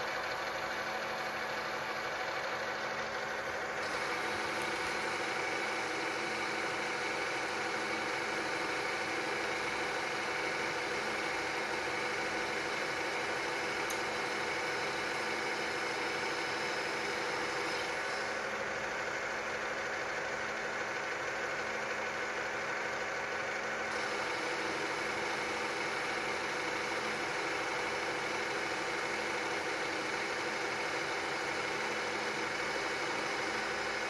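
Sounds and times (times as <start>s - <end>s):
metal lathe humming and whining: 1.0s - 19.4s, 23.8s - 34.0s.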